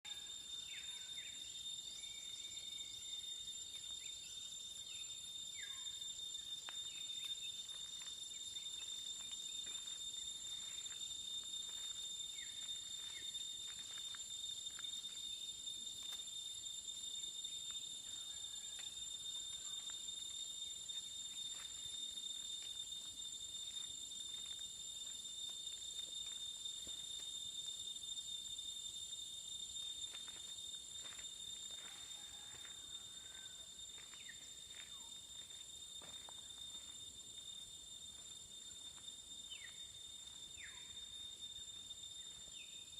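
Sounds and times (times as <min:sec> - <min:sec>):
high-pitched insect whine: 0:00.0 - 0:42.9.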